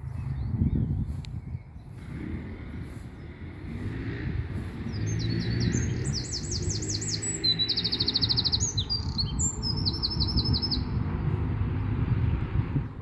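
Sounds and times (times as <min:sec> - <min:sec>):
songbird singing trills: 0:00.0 - 0:02.2, 0:02.8 - 0:11.4.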